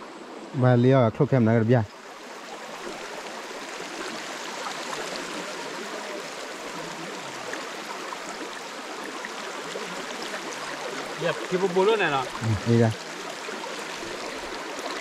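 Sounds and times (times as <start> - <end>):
river water running: 0.0 - 15.0.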